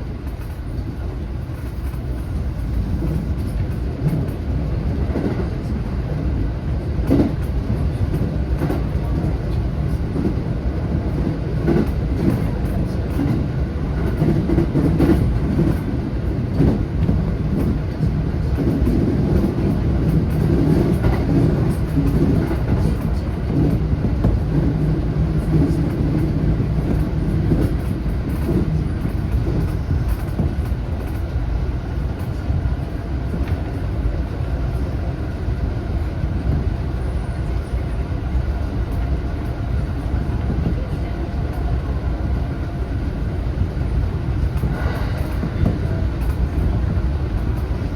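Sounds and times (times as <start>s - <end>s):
clicks of wheels on rail: 0.0s - 47.9s
train wheels rumbling on rail: 0.0s - 47.9s.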